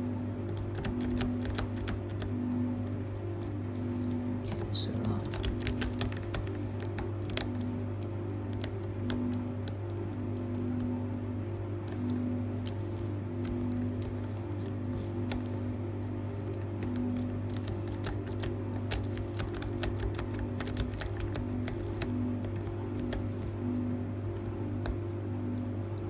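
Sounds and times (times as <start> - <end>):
soft background music: 0.0 - 26.0
steady low hum: 0.0 - 26.0.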